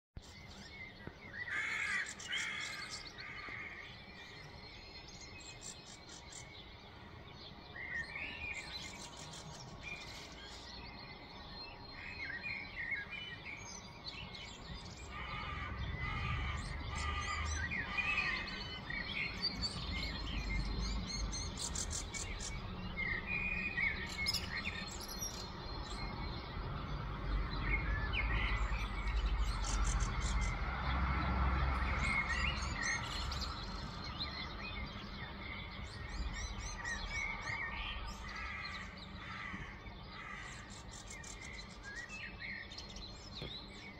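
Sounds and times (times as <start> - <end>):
songbirds singing and chirping: 0.2 - 43.9.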